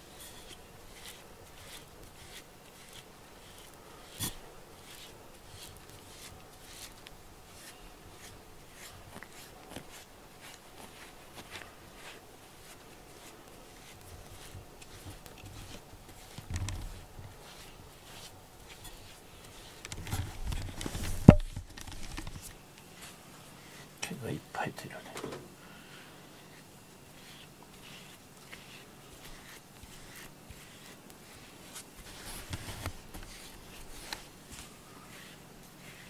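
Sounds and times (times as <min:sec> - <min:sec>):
rustles of hands handling cat: 0:00.0 - 0:36.0.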